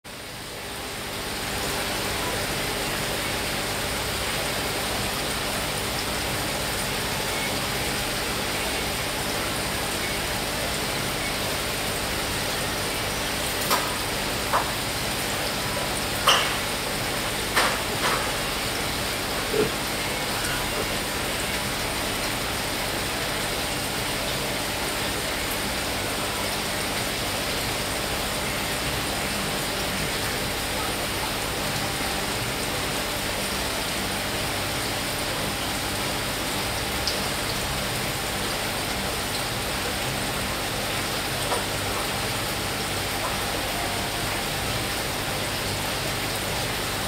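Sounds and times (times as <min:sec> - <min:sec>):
splashing aquarium water: 0:00.2 - 0:47.0.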